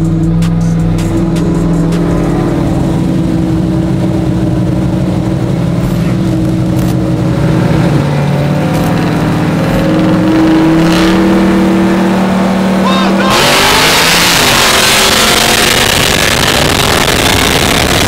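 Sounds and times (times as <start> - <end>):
truck engines running: 0.0 - 18.0.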